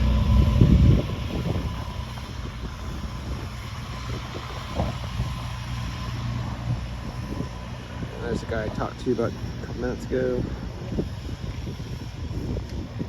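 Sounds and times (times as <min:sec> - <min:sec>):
piston engine and propeller running: 0:00.0 - 0:13.0.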